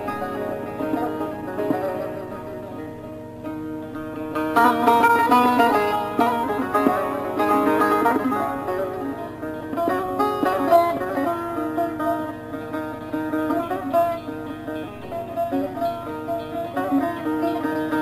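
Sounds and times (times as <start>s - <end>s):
plucked string instrument melody: 0.0s - 18.0s.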